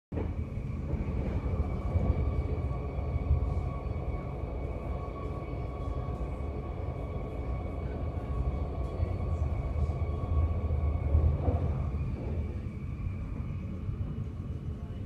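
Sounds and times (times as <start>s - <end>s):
train wheels rumbling: 0.1s - 15.0s.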